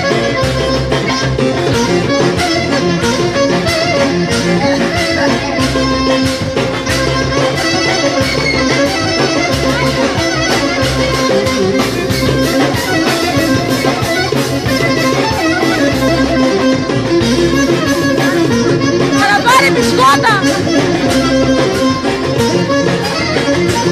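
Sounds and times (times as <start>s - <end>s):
bouzouki: 0.0s - 23.9s
clarinet: 0.0s - 23.9s
hand percussion beat: 0.0s - 23.9s.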